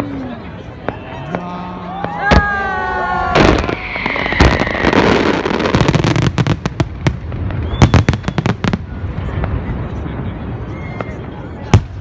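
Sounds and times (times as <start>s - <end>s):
fireworks crackling: 0.6s - 12.0s
fireworks bangs: 0.7s - 12.0s.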